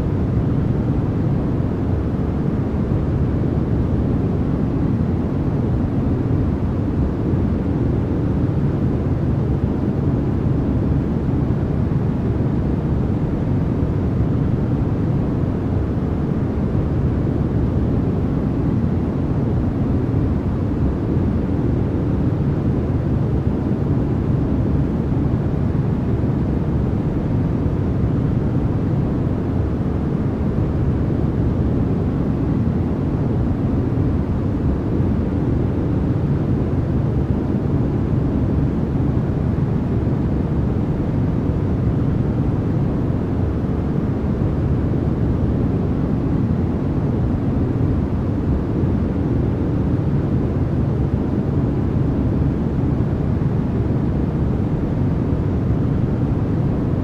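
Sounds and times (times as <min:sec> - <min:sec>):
deep white noise hiss: 0:00.0 - 0:57.0.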